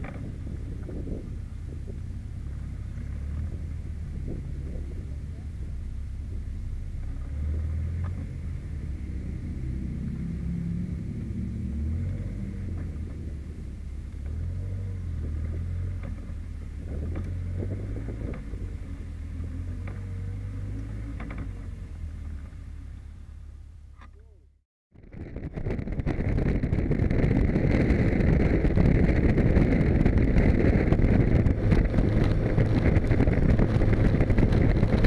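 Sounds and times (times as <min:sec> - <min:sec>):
car engine rumbling at low revs: 0:00.0 - 0:35.0.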